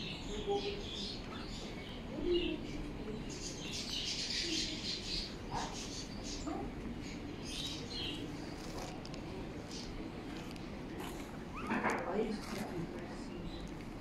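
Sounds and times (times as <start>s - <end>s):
small animals chirping and squeaking: 0.0s - 13.8s
low background hum: 0.0s - 14.0s.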